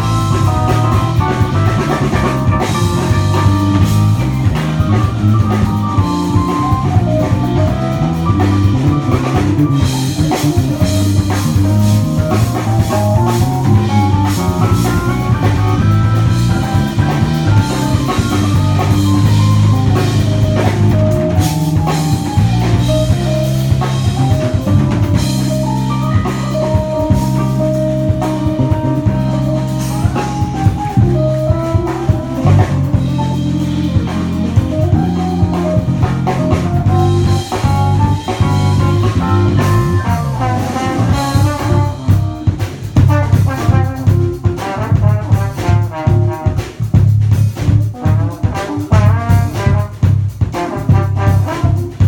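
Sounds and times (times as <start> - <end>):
band with drums and brass: 0.0 - 52.0
heavy bass: 0.0 - 52.0.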